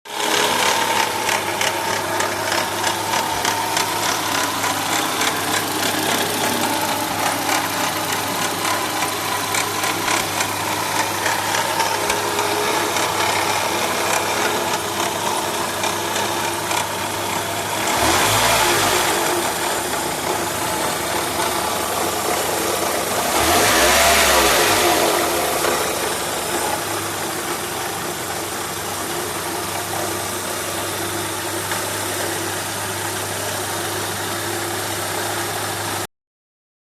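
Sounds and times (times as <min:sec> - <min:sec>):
engine revving: 0:00.1 - 0:32.1
petrol engine idling with ticking: 0:00.1 - 0:36.0.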